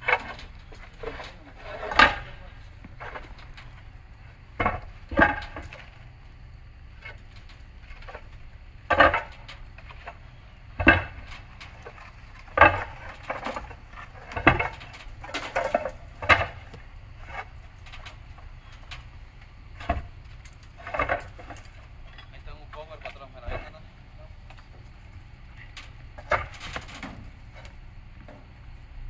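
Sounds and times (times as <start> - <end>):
roof tiles clacking together: 0.0 - 3.9, 7.0 - 27.8.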